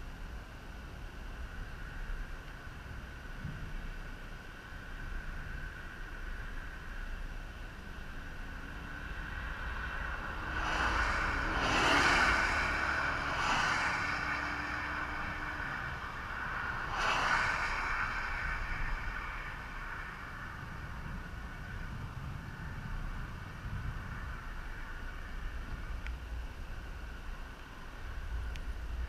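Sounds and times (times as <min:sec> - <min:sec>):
low traffic rumble: 0:00.0 - 0:29.0
vehicles swishing past on wet road: 0:04.6 - 0:29.0.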